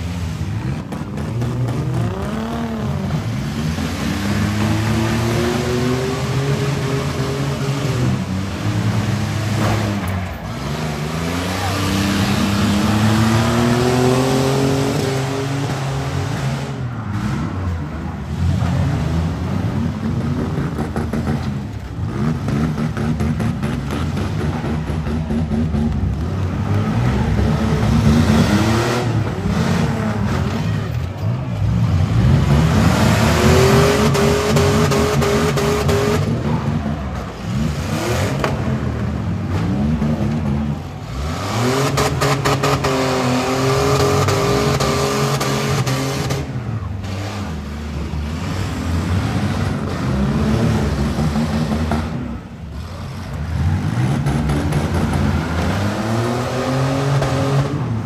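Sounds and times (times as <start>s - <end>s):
van engines revving: 0.0s - 58.0s.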